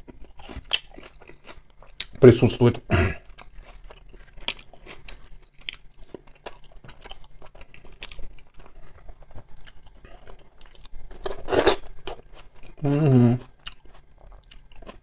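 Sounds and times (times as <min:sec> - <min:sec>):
chewing potato wedge: 0:00.0 - 0:15.0.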